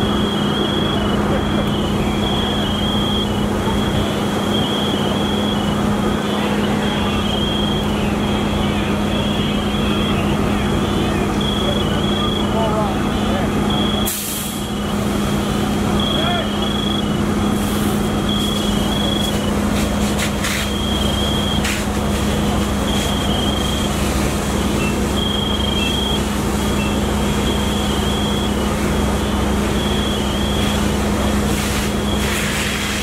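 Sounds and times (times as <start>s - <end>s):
fire engine pump droning: 0.0s - 33.0s.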